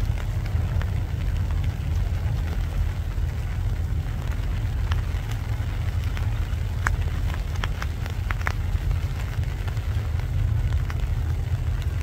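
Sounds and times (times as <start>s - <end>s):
rain falling: 0.0s - 12.0s
sharp raindrop ticks: 0.0s - 12.0s
steady low rumble: 0.0s - 12.0s.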